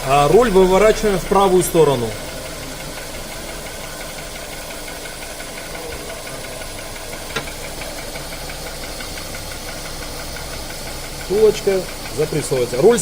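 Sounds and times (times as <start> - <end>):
car engine idling: 0.0 - 13.0
faint regular ticking: 0.0 - 13.0.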